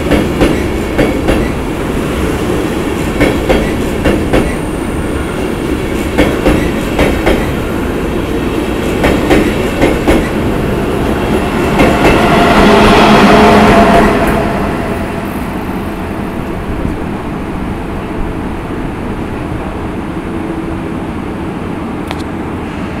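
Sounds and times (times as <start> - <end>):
steady train whine: 0.0 - 23.0
train coaches rumbling past: 0.0 - 23.0.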